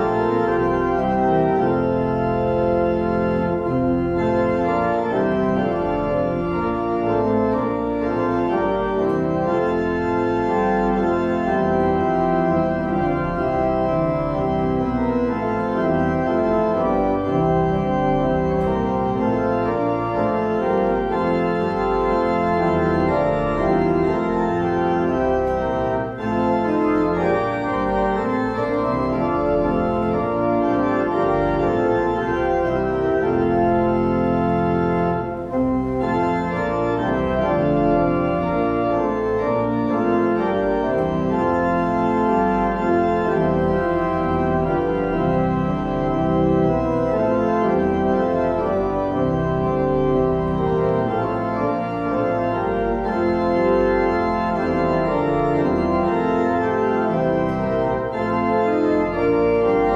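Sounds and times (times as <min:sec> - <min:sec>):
church organ playing a hymn: 0:00.0 - 0:59.9.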